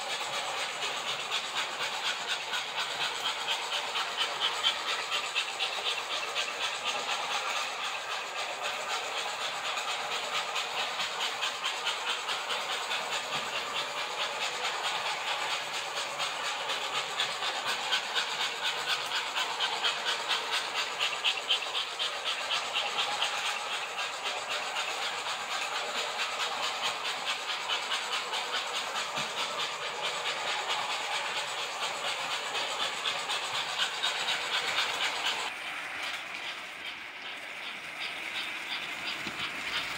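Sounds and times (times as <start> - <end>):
toy train motors whirring: 0.0 - 39.9
wheels clicking over rail joints: 0.0 - 39.9.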